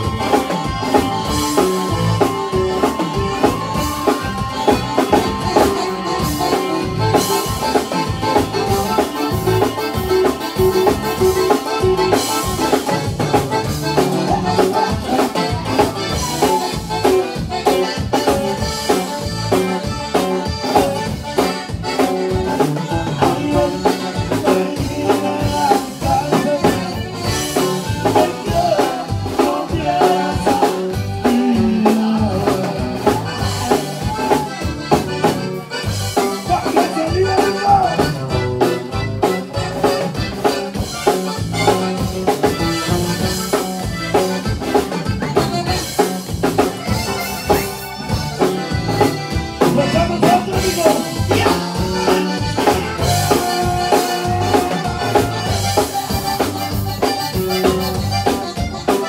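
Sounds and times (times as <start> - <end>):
bass: 0.0 - 59.0
button accordion melody: 0.0 - 59.0
drum kit: 0.0 - 59.0.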